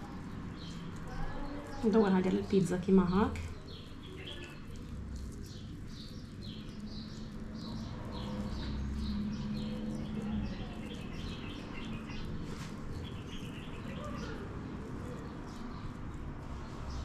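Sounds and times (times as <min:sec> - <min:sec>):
low steady hum: 0:00.0 - 0:17.0
small bird chirping: 0:00.0 - 0:17.0.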